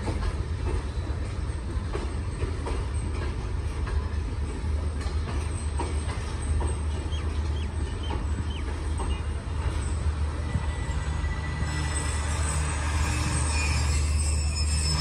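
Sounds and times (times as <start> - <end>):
train idling rumble: 0.0 - 15.0.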